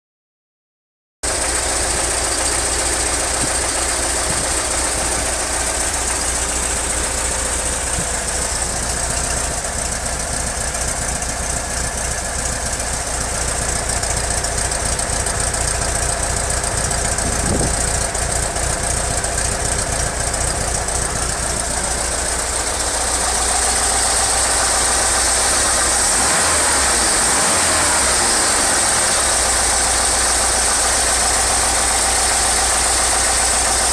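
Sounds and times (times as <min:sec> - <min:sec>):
van engine idling: 0:01.2 - 0:33.9.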